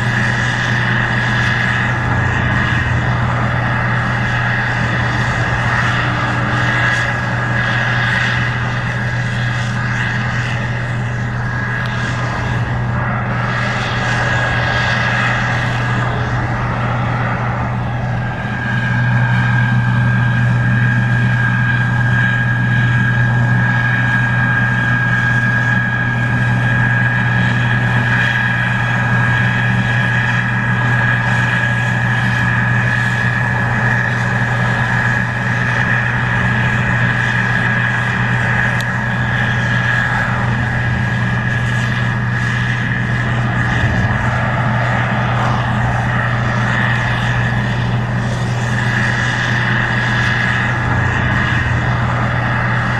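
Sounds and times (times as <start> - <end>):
high machine whine: 0.0 - 52.9
low engine drone: 0.0 - 52.9.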